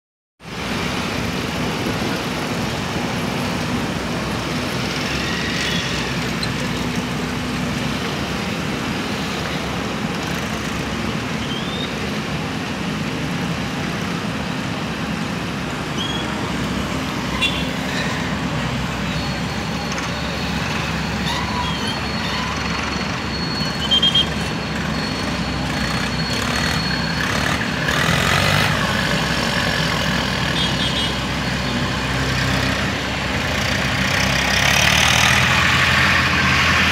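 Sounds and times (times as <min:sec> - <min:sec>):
excavator diesel engine running: 0:00.5 - 0:36.9.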